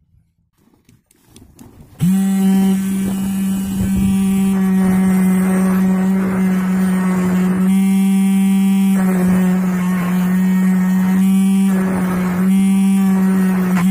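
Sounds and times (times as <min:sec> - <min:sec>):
electric motor humming: 0:02.0 - 0:13.9.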